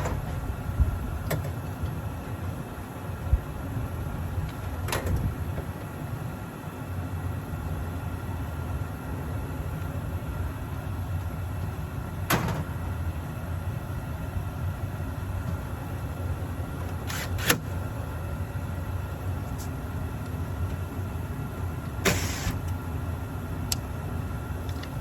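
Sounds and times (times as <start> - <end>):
hvac unit humming: 0.0 - 25.0.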